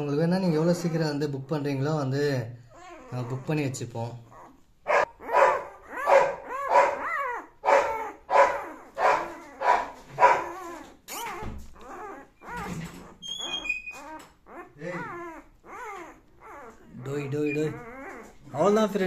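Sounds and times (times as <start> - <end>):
puppies whining and yelping: 0.4 - 1.8, 2.6 - 19.0.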